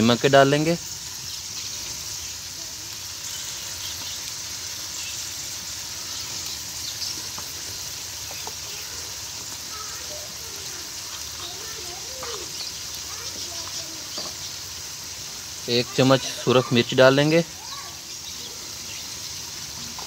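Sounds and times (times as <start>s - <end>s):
vegetables sizzling in a pot: 0.0s - 20.0s.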